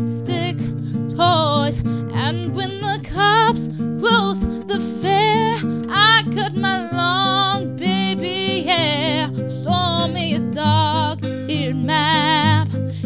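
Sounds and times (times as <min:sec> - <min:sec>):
woman singing with vibrato: 0:00.0 - 0:12.8
acoustic guitar: 0:00.0 - 0:13.0.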